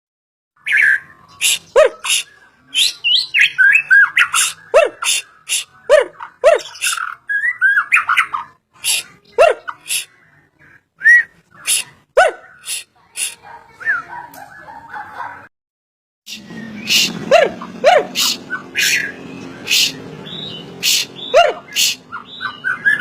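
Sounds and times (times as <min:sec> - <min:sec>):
harsh rasping bird calls: 0:00.6 - 0:15.5, 0:16.3 - 0:23.0
songbird singing: 0:00.6 - 0:15.5, 0:16.3 - 0:23.0.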